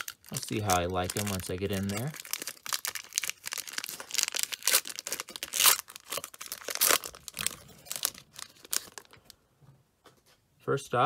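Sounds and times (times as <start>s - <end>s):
foil wrapper tearing and crinkling: 0.0s - 9.3s.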